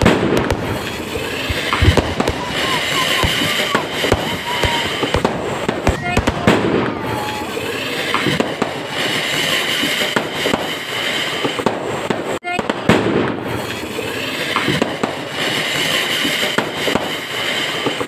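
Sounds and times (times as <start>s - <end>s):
fireworks hissing: 0.0s - 12.1s, 13.4s - 18.0s
fireworks crackles and pops: 0.0s - 18.0s.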